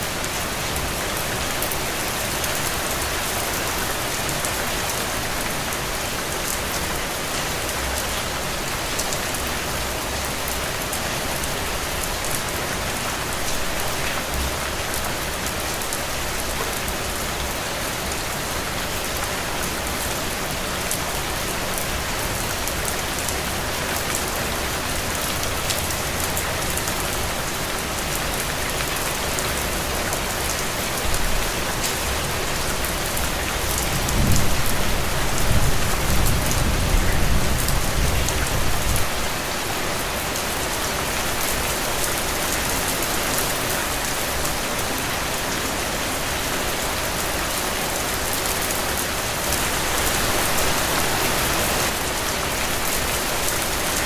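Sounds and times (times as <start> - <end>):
heavy rain on wet ground: 0.0 - 54.0.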